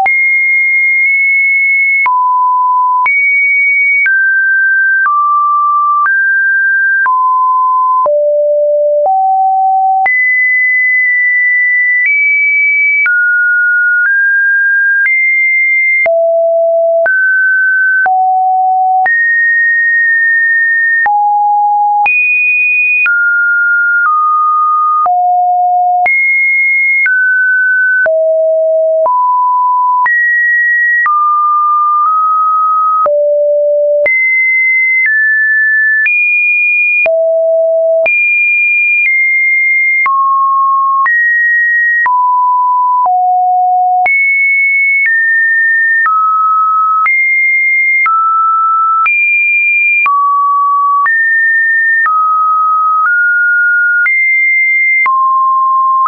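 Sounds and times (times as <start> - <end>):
sine tones at random pitches: 0.0 - 38.2, 39.0 - 56.0.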